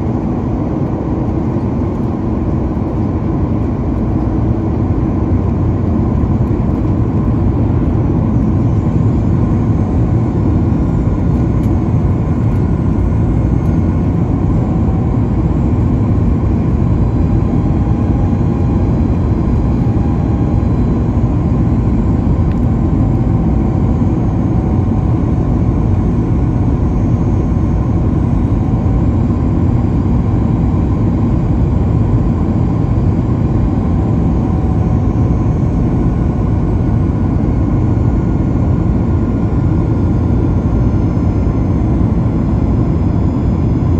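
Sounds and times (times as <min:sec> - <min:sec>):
airflow rush in cabin: 0:00.0 - 0:43.9
jet engine noise: 0:00.0 - 0:43.9.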